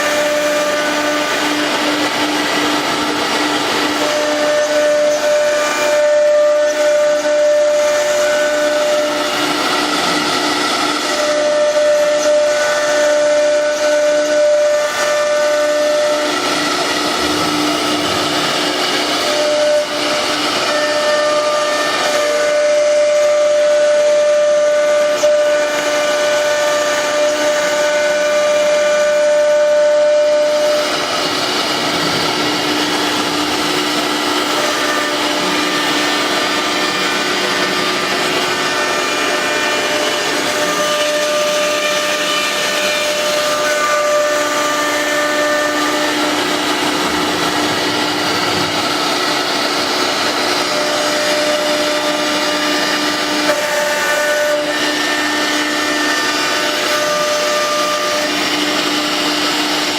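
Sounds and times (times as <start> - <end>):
router spindle whining cutting wood: 0.0 - 59.9.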